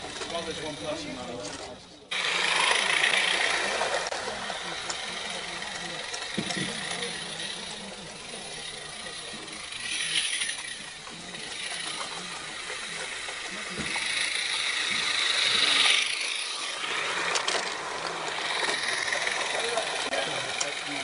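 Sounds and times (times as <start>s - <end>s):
small locomotive hissing: 0.0s - 1.4s, 2.0s - 21.0s
model train wheels clicking and rattling: 0.0s - 21.0s.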